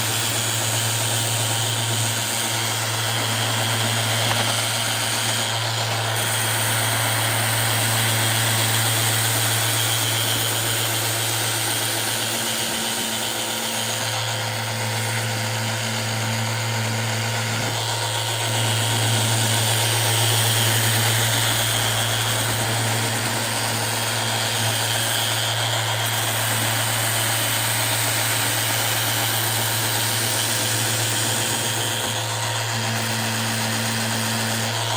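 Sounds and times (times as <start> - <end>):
power sander running: 0.0 - 34.9.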